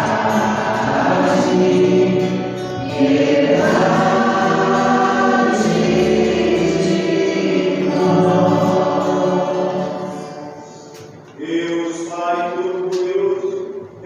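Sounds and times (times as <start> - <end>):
choir singing gospel: 0.0 - 12.9.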